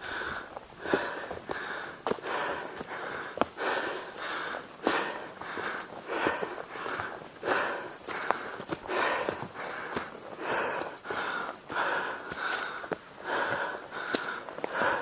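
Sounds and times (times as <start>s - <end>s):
heavy rapid breathing: 0.0s - 15.0s.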